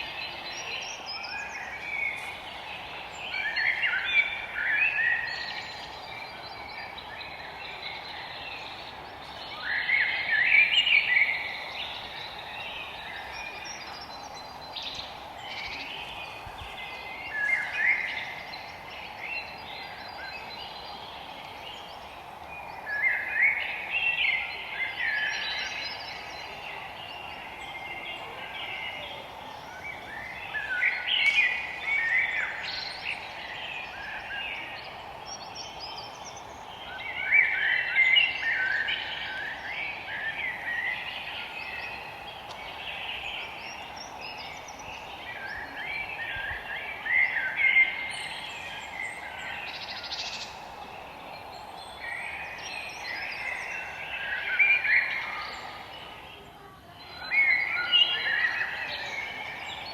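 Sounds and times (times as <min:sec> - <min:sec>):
songbirds singing: 0:00.0 - 0:59.9
steady low hiss: 0:00.0 - 0:59.9.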